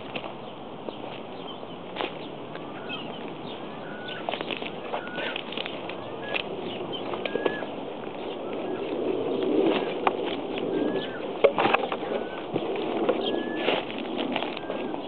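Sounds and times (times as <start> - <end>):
footsteps through dry brush: 0.0 - 15.0
whistled bird calls: 2.6 - 15.0.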